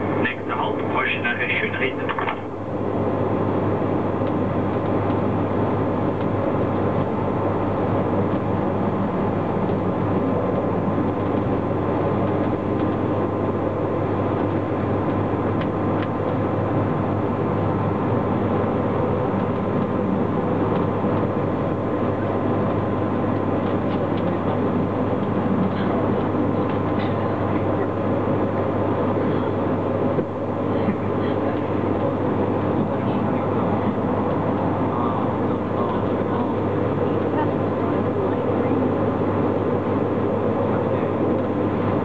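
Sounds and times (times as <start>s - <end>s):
train rumble and hum: 0.0s - 42.0s.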